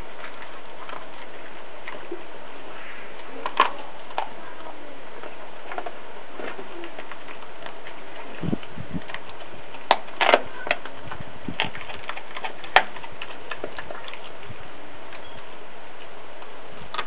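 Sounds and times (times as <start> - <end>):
dog chewing with crunching bones: 0.0 - 17.0.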